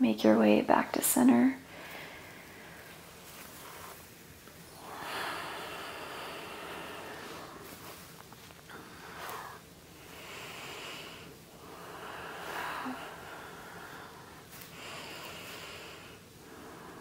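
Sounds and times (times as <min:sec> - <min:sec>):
woman breathing slowly: 0:01.6 - 0:17.0.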